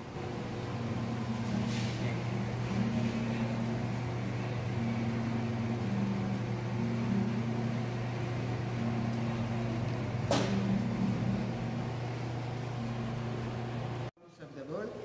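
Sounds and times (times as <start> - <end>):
kitchen equipment hum: 0.0 - 14.1.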